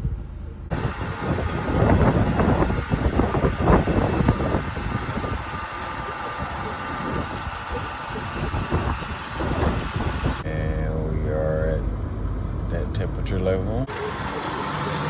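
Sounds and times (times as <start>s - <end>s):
car engine idling: 0.4s - 15.0s.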